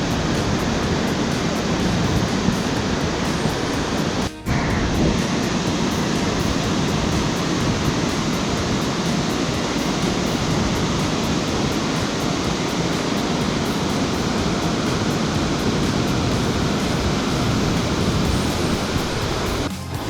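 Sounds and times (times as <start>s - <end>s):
water rushing over rapids: 0.0s - 20.0s.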